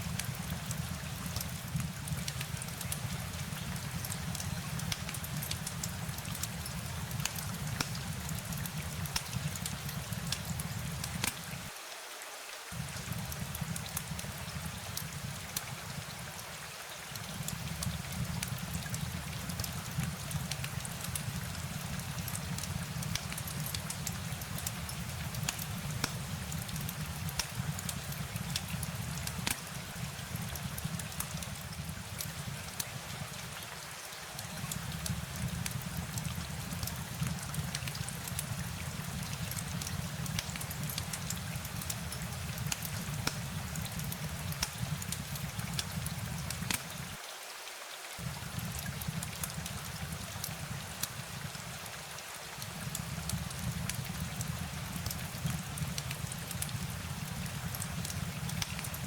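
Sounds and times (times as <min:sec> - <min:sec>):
steady rain with drop ticks: 0:00.0 - 0:59.0.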